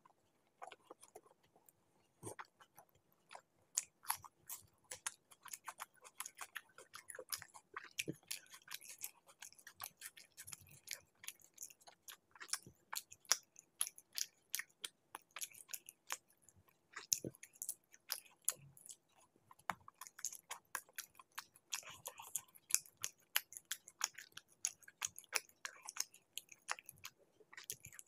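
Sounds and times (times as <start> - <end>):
chewing food: 0.0 - 28.0.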